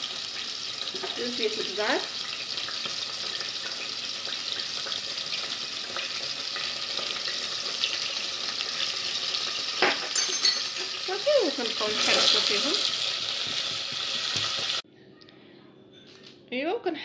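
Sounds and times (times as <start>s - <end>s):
onions sizzling in oil: 0.0s - 14.8s.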